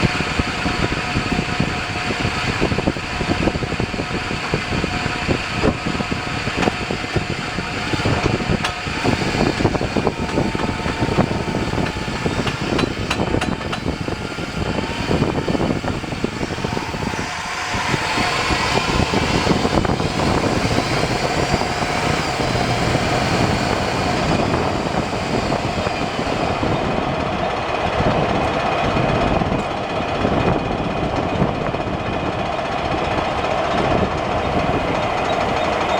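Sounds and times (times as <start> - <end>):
engine noise: 0.0 - 35.9
rough rapid rumble: 0.0 - 35.9
wind noise: 0.0 - 35.9.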